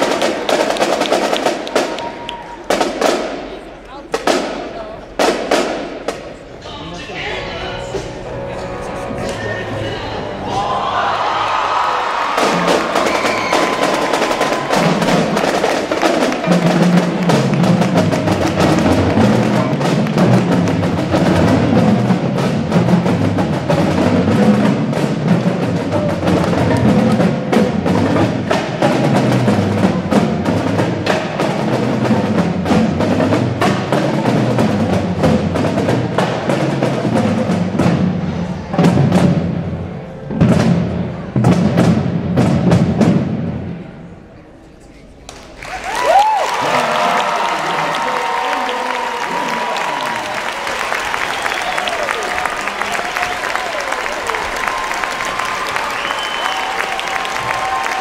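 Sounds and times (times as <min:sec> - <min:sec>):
marching drumline cadence: 0:00.0 - 0:44.3, 0:45.0 - 0:58.0.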